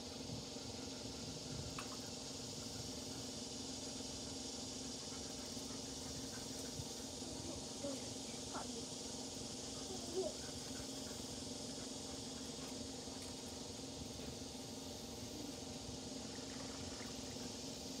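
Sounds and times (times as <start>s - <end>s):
high hiss: 0.0s - 18.0s.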